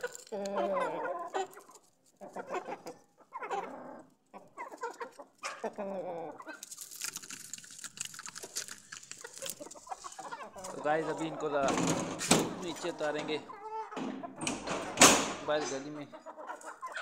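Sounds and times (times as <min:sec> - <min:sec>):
chickens clucking: 0:00.0 - 0:06.8, 0:08.2 - 0:17.0.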